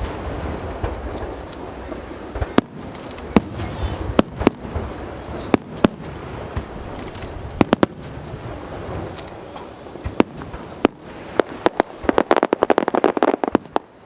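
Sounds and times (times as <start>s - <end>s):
background rumble: 0.0s - 14.0s
fireworks bangs: 0.0s - 14.0s.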